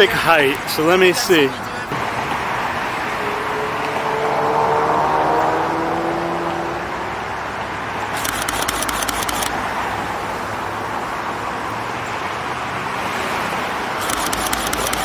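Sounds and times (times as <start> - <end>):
road traffic passing cars: 0.0 - 15.0.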